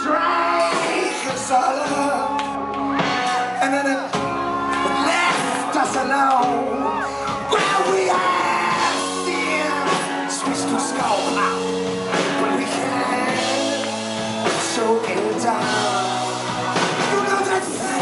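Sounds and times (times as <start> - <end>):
man singing: 0.0 - 2.6, 3.2 - 18.0
bass guitar: 0.0 - 18.0
drums: 0.0 - 18.0
electric guitar: 0.0 - 18.0.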